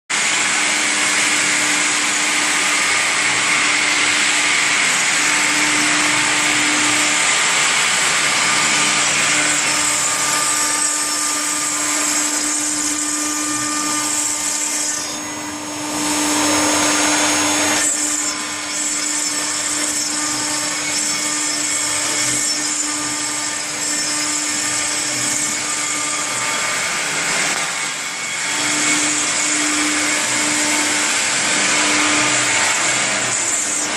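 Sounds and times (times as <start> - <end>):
hiss of cutting stone: 0.1 - 33.9
router spindle whining: 0.1 - 33.9.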